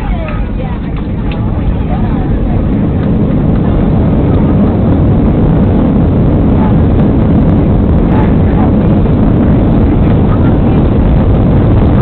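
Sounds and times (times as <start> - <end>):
jet engines reverse thrust roar: 0.0 - 12.0.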